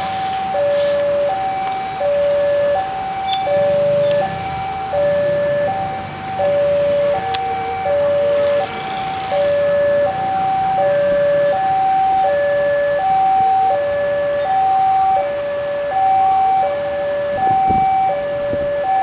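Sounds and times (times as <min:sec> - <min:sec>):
level-crossing two-tone alarm: 0:00.0 - 0:19.0.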